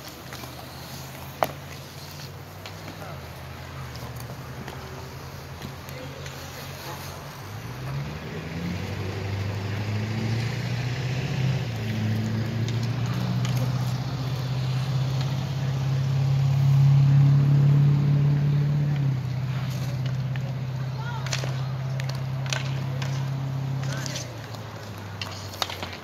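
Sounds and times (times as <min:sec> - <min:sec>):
vehicle engine running: 0:02.4 - 0:25.9.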